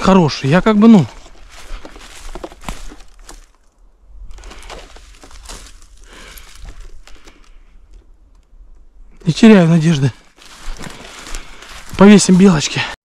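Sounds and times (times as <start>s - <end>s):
dry leaves and twigs crackling: 0.0s - 13.0s.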